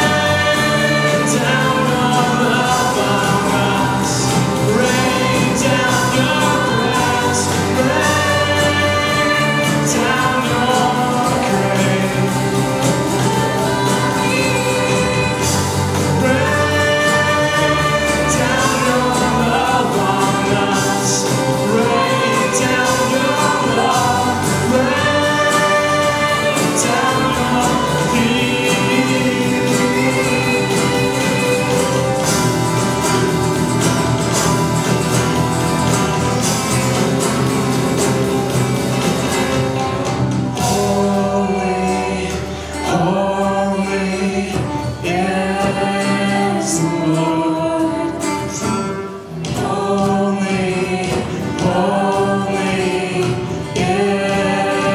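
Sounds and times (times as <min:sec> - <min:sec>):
band accompaniment: 0:00.0 - 0:54.9
group singing worship song: 0:00.0 - 0:54.9.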